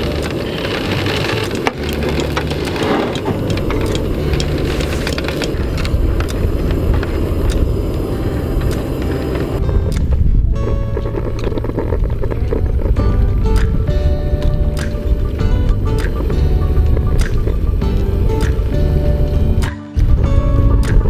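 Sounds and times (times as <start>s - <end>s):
gas stove burning rumble: 0.0s - 10.2s, 10.8s - 19.7s
light clicks and crackles: 0.0s - 17.6s.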